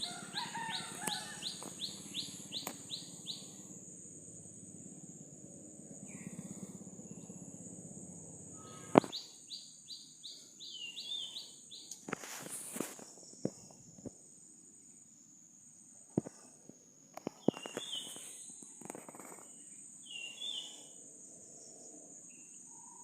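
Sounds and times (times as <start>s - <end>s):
high-pitched insect drone: 0.0s - 14.5s, 17.1s - 23.0s.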